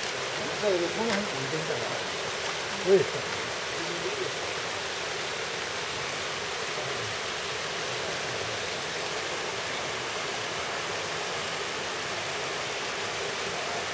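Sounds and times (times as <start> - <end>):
rushing river water: 0.0 - 13.9.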